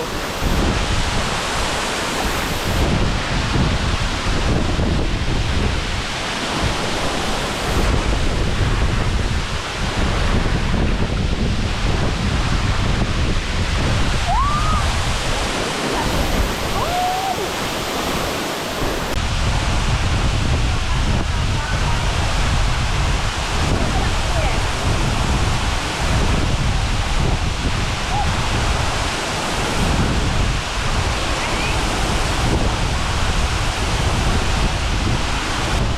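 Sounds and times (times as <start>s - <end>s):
waterfall rushing: 0.0s - 35.9s
wind buffeting microphone: 0.0s - 35.9s.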